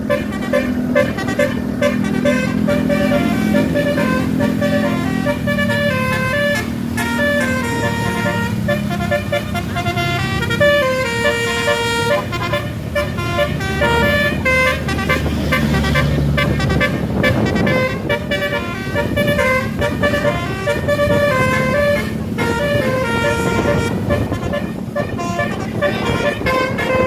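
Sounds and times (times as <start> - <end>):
bus engine rumble: 0.0 - 27.0
musical multi-tone bus horn: 0.0 - 27.0.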